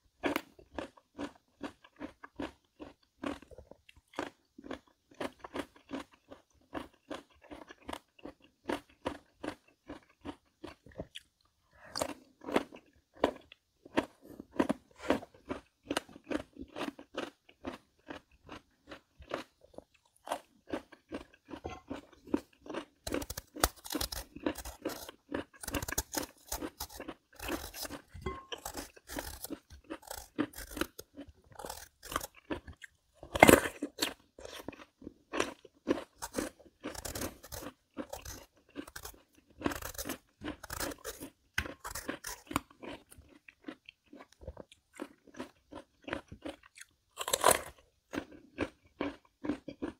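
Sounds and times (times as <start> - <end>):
person crunching melon: 0.2 - 49.9.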